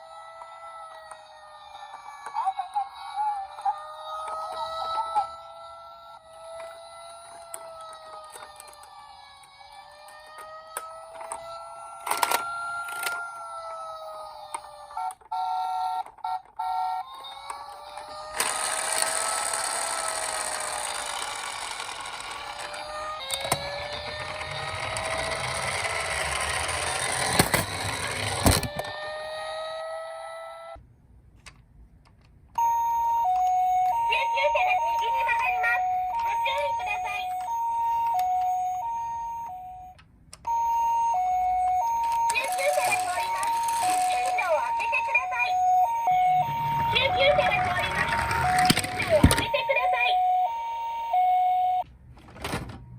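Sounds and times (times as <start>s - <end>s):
two-tone ambulance siren: 0.0s - 30.8s, 32.6s - 51.9s
wailing toy fire-engine siren: 0.0s - 30.8s, 32.6s - 51.9s.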